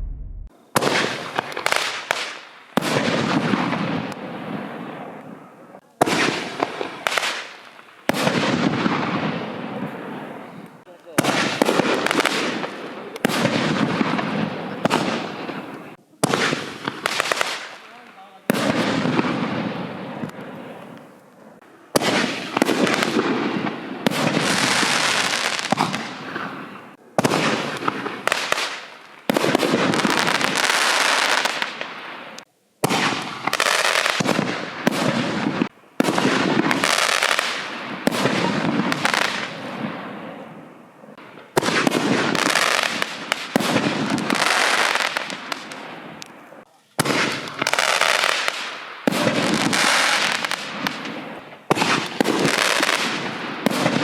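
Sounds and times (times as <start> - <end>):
firework crackling hiss: 0.7 - 54.0.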